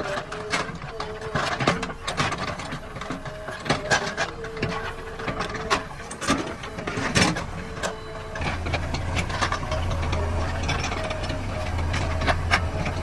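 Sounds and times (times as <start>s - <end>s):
diesel engine running: 0.0s - 13.0s
hydraulic whine: 0.0s - 13.0s
metallic clanks and knocks: 0.1s - 13.0s.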